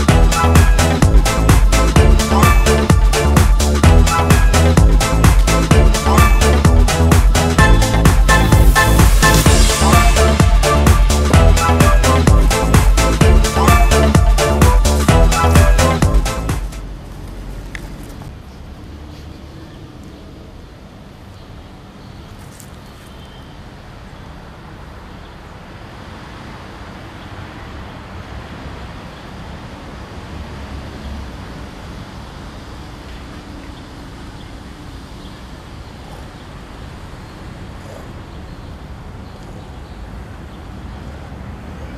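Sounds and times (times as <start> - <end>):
distant road traffic: 0.0 - 41.9.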